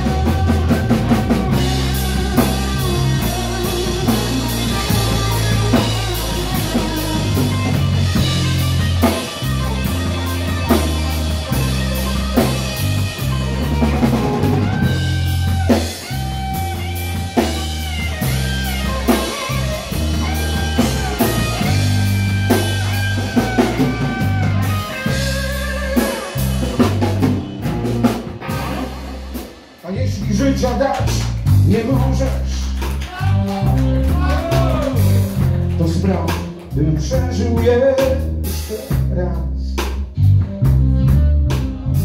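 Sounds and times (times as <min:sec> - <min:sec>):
electric guitar lead: 0:00.0 - 0:39.0
bass guitar: 0:00.0 - 0:42.0
drum kit: 0:00.0 - 0:42.0.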